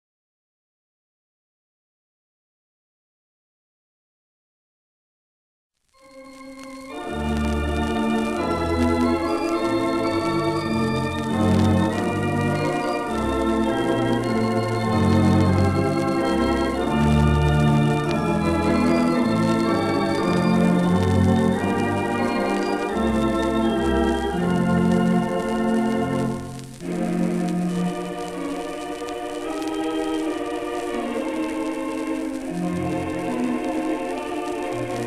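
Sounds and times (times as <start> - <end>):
record surface noise: 5.8 - 35.0
theatre organ playing: 6.0 - 35.0.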